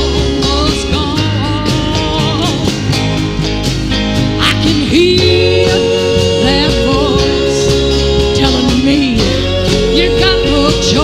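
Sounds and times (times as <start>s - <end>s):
woman singing: 0.0s - 3.0s, 4.4s - 11.0s
acoustic guitar: 0.0s - 11.0s.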